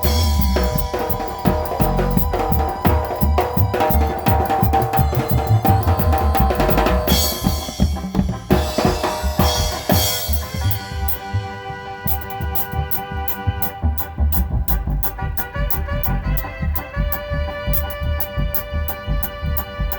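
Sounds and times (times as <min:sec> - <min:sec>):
drum kit groove: 0:00.0 - 0:19.9.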